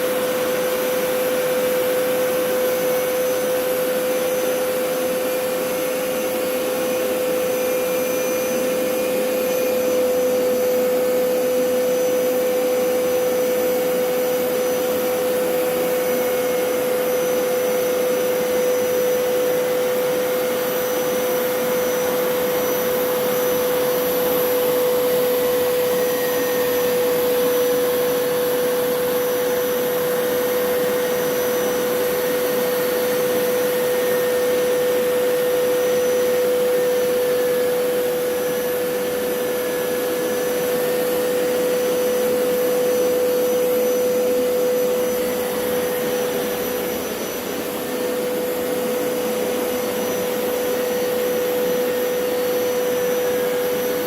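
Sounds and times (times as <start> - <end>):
carpet cleaner motor whine: 0.0 - 54.0
suction noise: 0.0 - 54.0.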